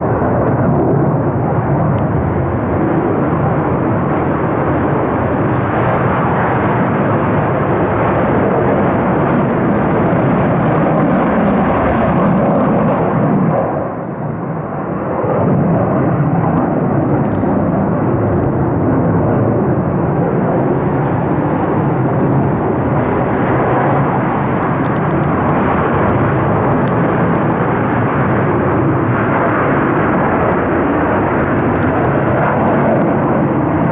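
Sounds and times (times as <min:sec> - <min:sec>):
fighter jets roaring on takeoff: 0:00.0 - 0:33.9.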